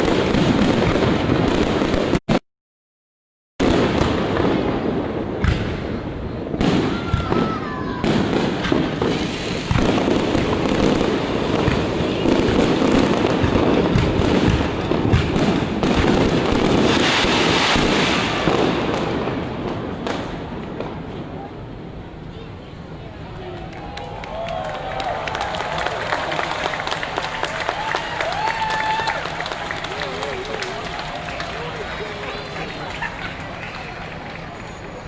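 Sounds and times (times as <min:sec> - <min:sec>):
fireworks bursting and crackling: 0:00.0 - 0:02.3, 0:03.6 - 0:35.0.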